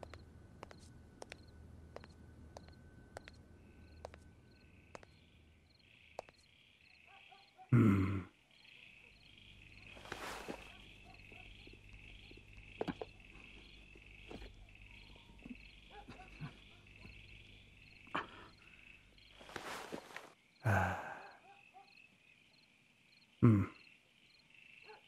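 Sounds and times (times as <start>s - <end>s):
crickets chirping: 0.0s - 7.7s, 8.3s - 25.0s.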